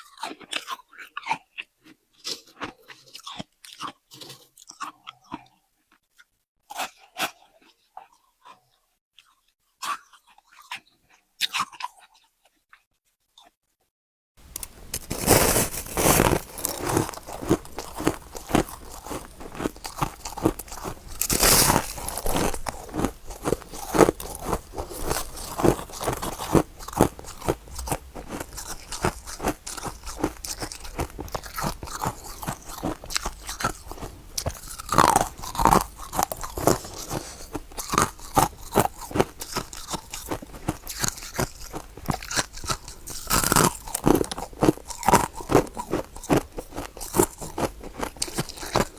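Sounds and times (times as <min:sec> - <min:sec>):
crunching and chewing frost: 0:00.0 - 0:12.8, 0:14.4 - 0:48.9.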